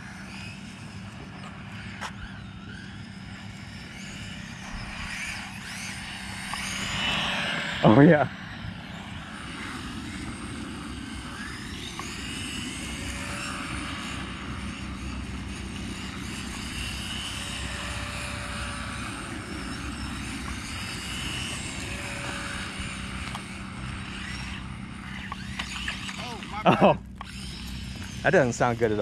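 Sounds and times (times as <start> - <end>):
toy car electric motors whining: 0.0 - 29.0.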